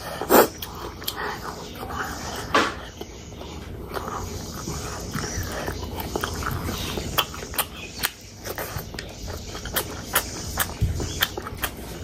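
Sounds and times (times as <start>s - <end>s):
wet chewing: 0.0s - 12.0s
mouth clicks and smacks: 0.2s - 12.0s.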